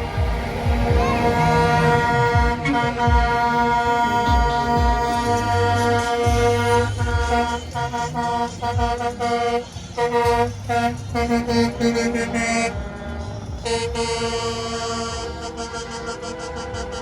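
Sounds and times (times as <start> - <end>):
engine rumble: 0.0 - 17.0
truck horn honking: 0.0 - 17.0.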